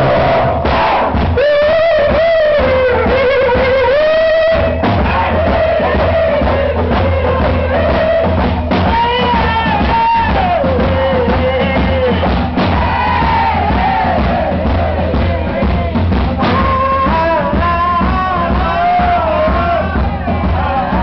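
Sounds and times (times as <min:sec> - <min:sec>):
drum kit: 0:00.0 - 0:21.0.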